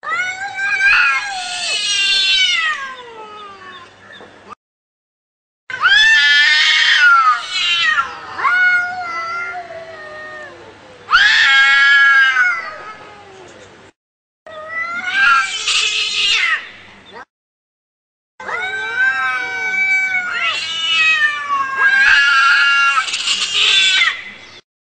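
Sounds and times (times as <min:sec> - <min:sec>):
cat caterwauling: 0:00.0 - 0:03.9, 0:05.7 - 0:13.6, 0:14.5 - 0:17.3, 0:18.4 - 0:24.3.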